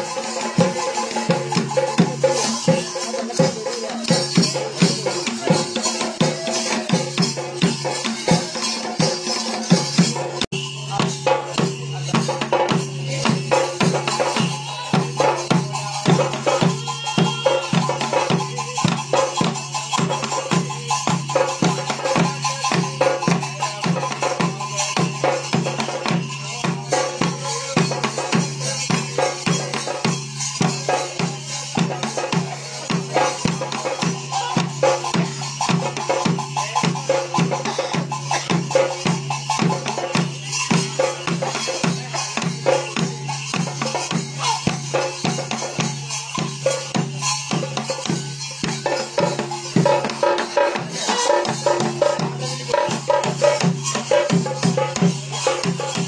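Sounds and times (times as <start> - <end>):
drums beaten in fast rhythm: 0.0 - 56.0
rattling percussion: 0.0 - 56.0.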